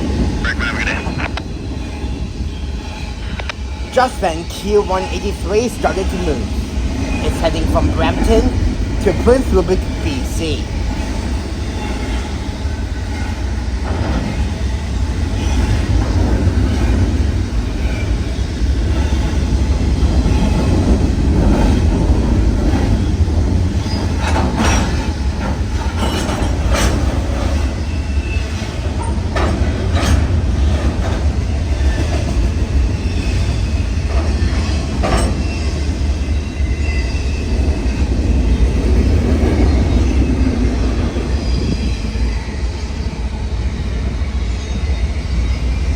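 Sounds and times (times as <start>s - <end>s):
freight train rumbling: 0.0s - 45.9s.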